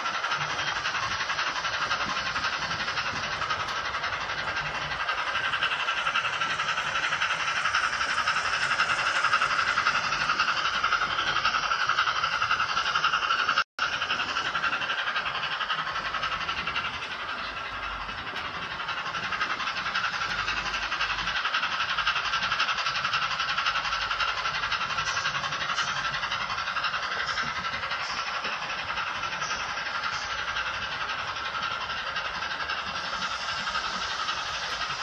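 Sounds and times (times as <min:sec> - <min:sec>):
model train steam chuffing: 0:00.0 - 0:35.0.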